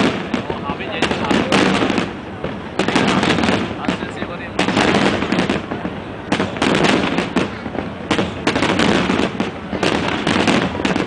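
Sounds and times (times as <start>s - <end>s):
fireworks bangs and crackle: 0.0s - 11.0s.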